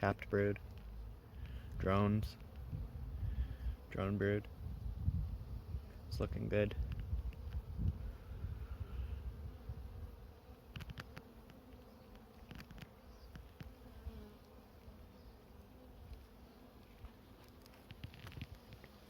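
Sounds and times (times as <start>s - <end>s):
bees buzzing: 0.8s - 19.0s.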